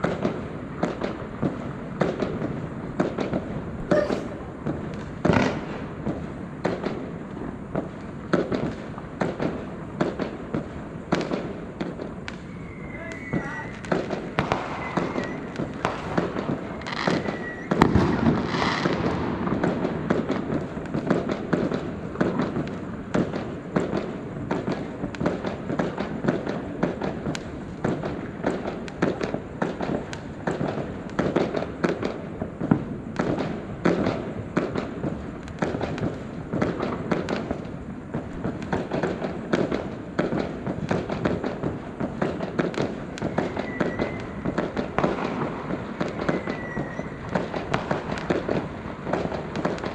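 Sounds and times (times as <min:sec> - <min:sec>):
fireworks bangs: 0:00.0 - 0:49.9
fireworks crackling and popping: 0:00.0 - 0:49.9.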